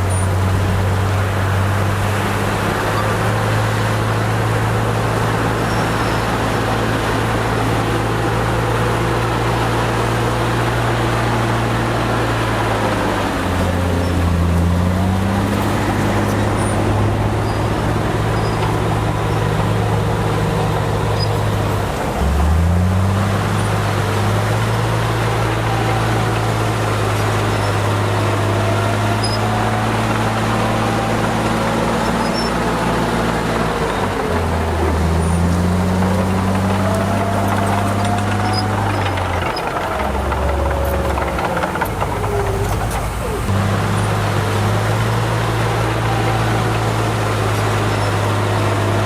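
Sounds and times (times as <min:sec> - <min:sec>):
bulldozer diesel engine running: 0:00.0 - 0:49.0.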